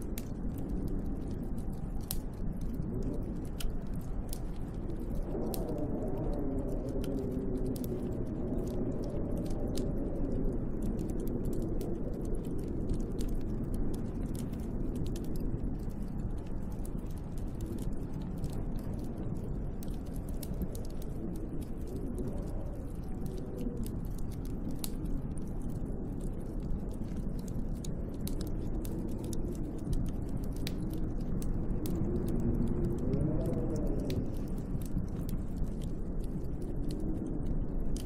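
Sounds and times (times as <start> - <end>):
gusting wind: 0.0 - 38.0
small crackling clicks: 0.0 - 38.0.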